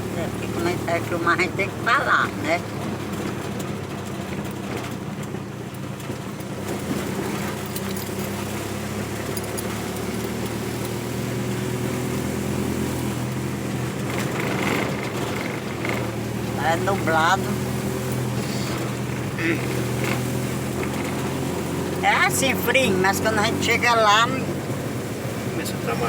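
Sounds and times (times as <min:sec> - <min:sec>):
road and tyre noise: 0:00.0 - 0:26.0
vehicle engine running: 0:00.0 - 0:26.0.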